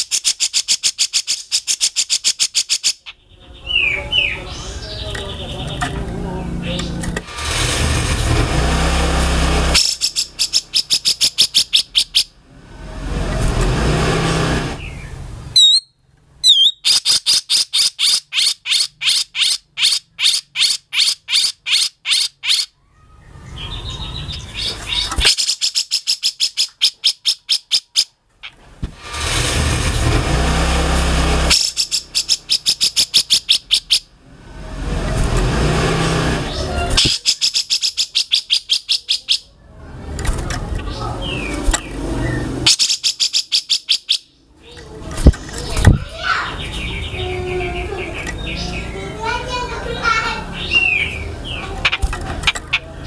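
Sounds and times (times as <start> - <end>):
bird singing harsh song: 0.0 - 7.2, 9.7 - 12.9, 14.7 - 28.6, 31.4 - 34.1, 36.4 - 39.8, 40.7 - 53.0.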